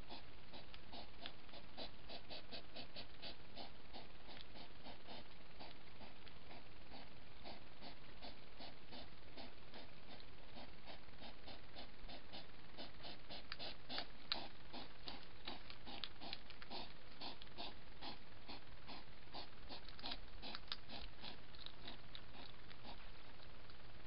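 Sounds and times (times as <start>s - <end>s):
hedgehog snuffling: 0.0s - 23.6s.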